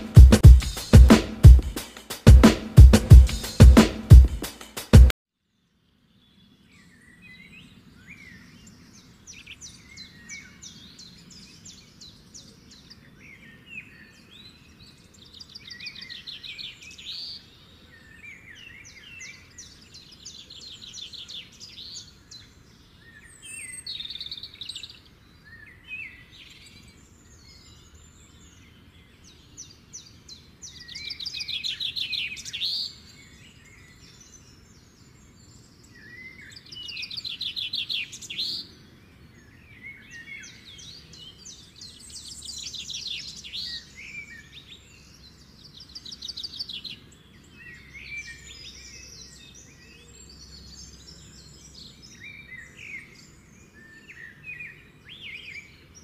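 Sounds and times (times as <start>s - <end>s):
small birds chirping: 0.0s - 4.9s, 5.6s - 56.0s.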